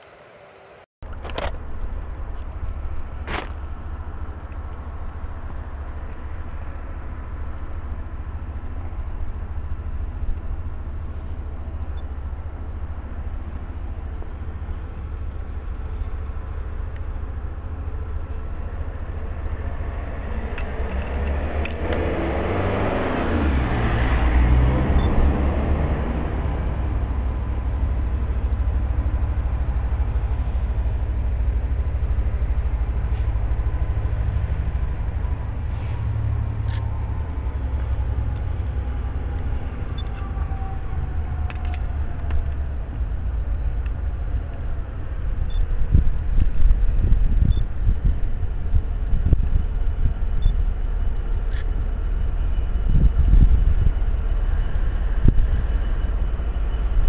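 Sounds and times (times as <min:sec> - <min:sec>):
diesel locomotive engine approaching: 0:00.0 - 0:57.0
steady low rumble: 0:01.0 - 0:57.0.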